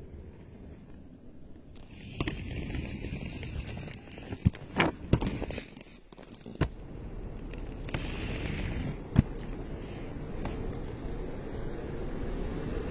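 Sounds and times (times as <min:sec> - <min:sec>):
skate wheels rolling on asphalt: 0:00.0 - 0:12.9.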